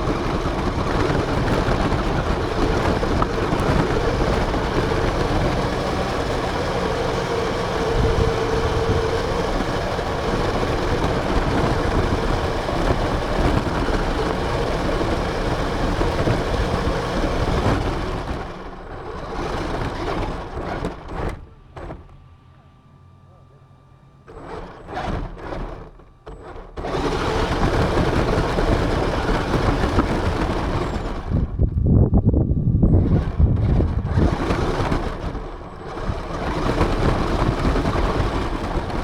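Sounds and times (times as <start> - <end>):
toy car rumble with whine: 0.0 - 22.9, 24.2 - 39.0.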